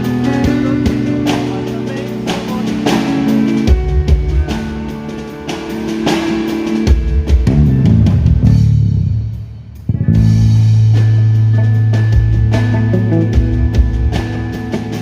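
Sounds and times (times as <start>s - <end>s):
live band playing: 0.0s - 15.0s
low bass notes: 0.0s - 15.0s.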